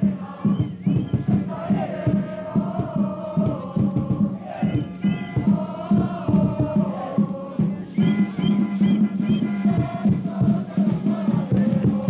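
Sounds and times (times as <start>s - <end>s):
steady drum beat: 0.0s - 12.0s
supporters chanting in unison: 0.0s - 12.0s.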